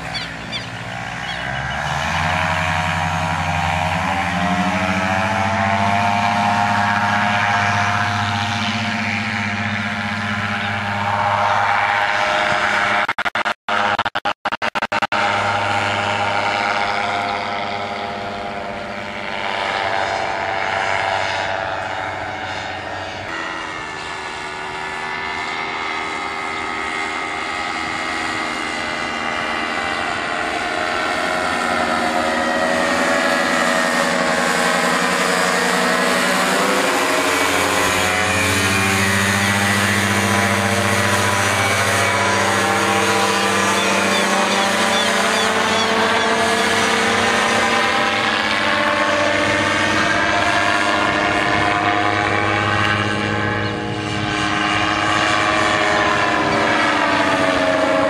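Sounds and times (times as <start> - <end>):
ultralight engine and propeller: 0.0 - 58.0.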